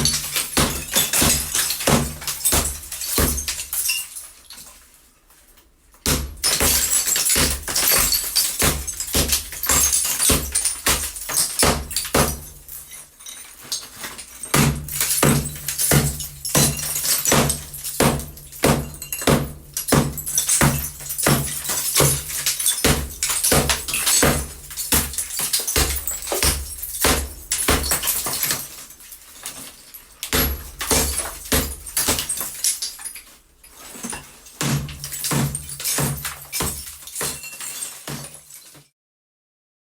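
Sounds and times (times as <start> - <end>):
hammer smashing a wall: 0.0 - 4.7, 6.0 - 33.2, 33.8 - 38.8
debris breaking: 0.0 - 4.8, 6.0 - 38.9.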